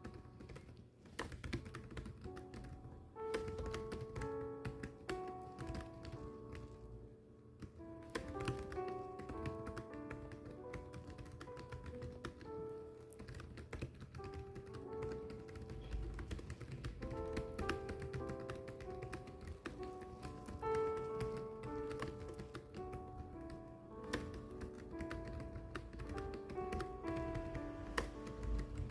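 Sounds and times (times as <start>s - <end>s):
keyboard typing clicks: 0.0s - 6.8s, 7.6s - 12.5s, 13.1s - 28.9s
soft background music: 0.0s - 28.9s.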